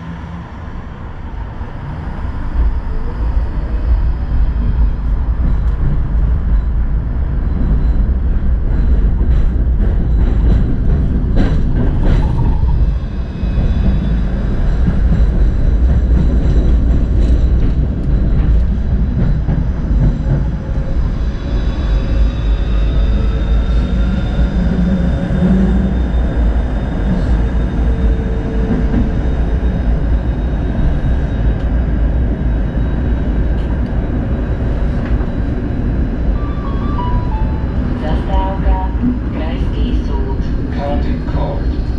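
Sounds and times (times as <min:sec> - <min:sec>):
tram rumbling on tracks: 0:00.0 - 0:41.9.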